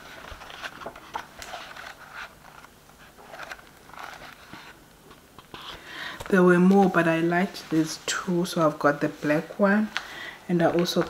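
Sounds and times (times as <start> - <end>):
book pages flipping: 0.0 - 8.3, 9.0 - 11.0.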